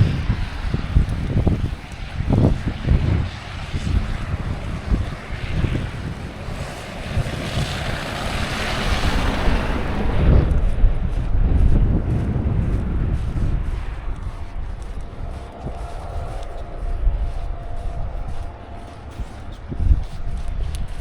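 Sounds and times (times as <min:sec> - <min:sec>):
blizzard wind buffeting microphone: 0:00.0 - 0:21.0.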